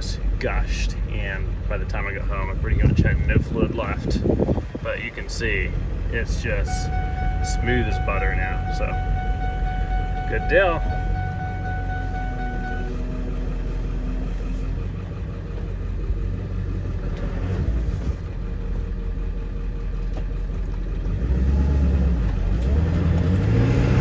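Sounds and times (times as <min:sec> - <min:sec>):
diesel truck engine rumble: 0:00.0 - 0:24.0.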